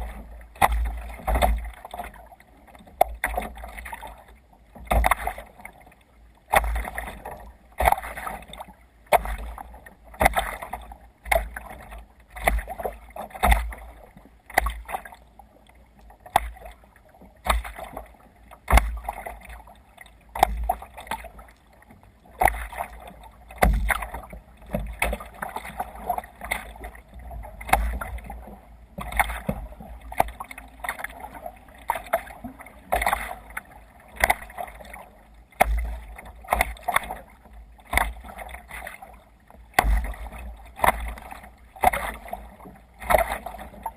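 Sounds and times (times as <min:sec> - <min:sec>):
paddle blades splashing water: 0:00.0 - 0:43.9
water rushing along hull: 0:00.0 - 0:43.9.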